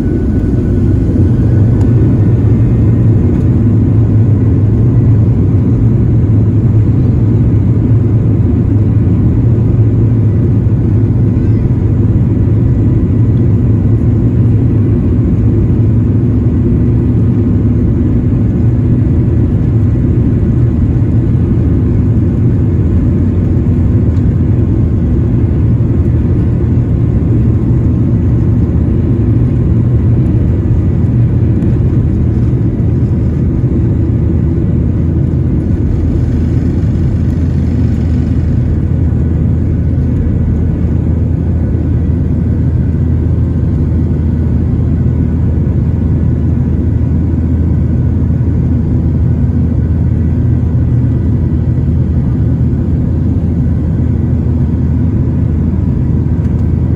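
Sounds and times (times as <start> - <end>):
airflow in cabin: 0.0 - 56.9
faint steady whine: 0.0 - 56.9
jet engines rumbling: 0.0 - 56.9.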